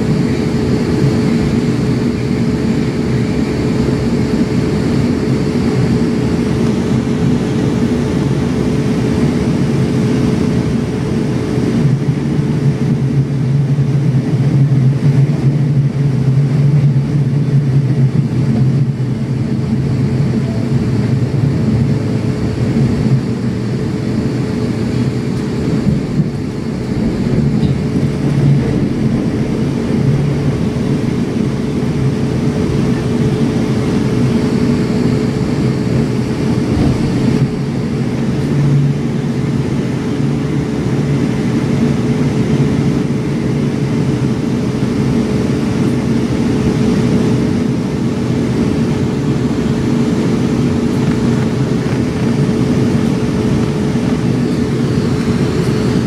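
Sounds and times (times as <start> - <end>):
constant hum: 0.0 - 56.0
wheels rumbling on rail: 0.0 - 56.0.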